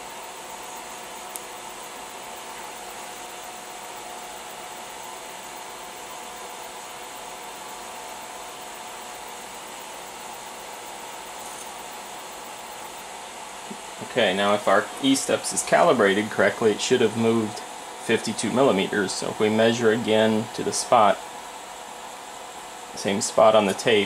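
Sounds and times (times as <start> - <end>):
printer fan noise: 0.0 - 24.0.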